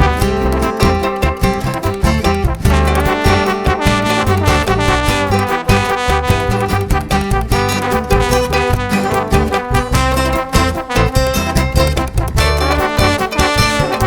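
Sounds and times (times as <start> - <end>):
upbeat swing music with brass: 0.0 - 14.0.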